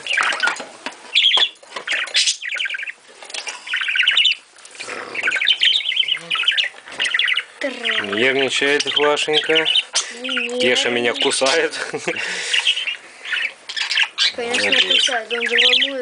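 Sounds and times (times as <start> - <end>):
budgerigar harsh chattering calls: 0.0 - 3.0, 3.6 - 11.8, 12.4 - 16.0.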